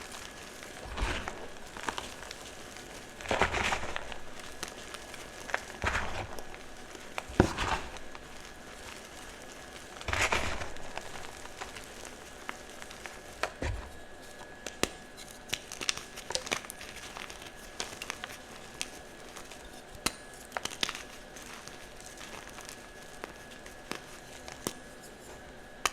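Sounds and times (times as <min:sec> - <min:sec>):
chalk crunching and crumbling: 0:00.0 - 0:25.9.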